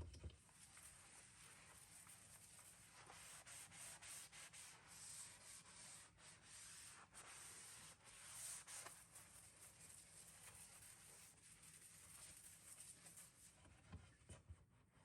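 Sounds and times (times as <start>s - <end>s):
faint rubbing on a surface: 0.4s - 15.0s.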